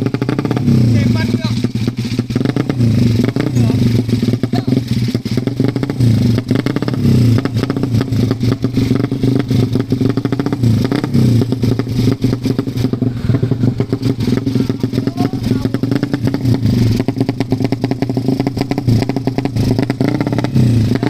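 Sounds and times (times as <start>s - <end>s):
single-cylinder engine revving: 0.0s - 21.0s.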